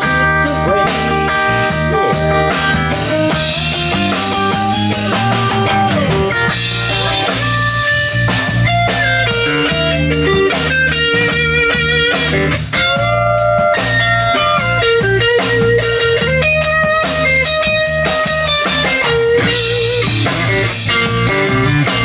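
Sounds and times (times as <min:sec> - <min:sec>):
bass guitar: 0:00.0 - 0:22.0
drum kit playing: 0:00.0 - 0:22.0
electric guitar melody: 0:00.0 - 0:22.0.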